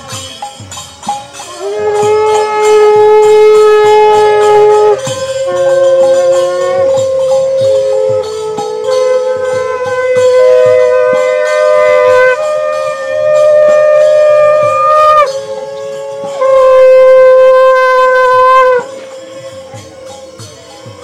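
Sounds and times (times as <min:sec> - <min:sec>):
conch shells blown: 0:00.0 - 0:21.0.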